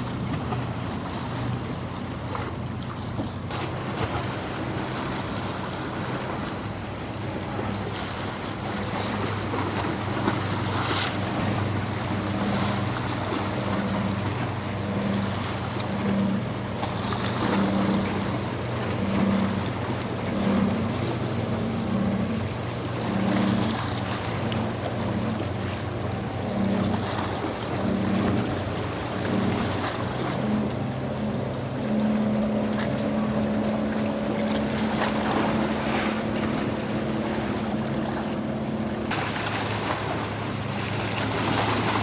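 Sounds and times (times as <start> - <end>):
boat engines droning: 0.0 - 42.0
pulsing hum: 0.0 - 42.0
waves washing: 0.0 - 42.0.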